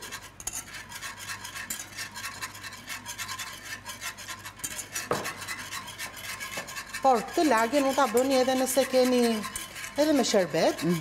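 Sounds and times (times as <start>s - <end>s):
utensil scraping while mixing: 0.0s - 11.0s.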